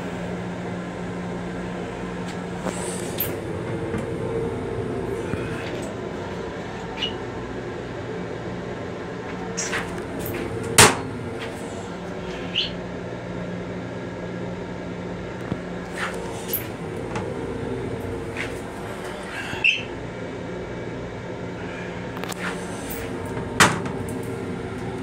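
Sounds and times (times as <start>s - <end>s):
train car hum: 0.0s - 13.0s, 15.3s - 25.0s.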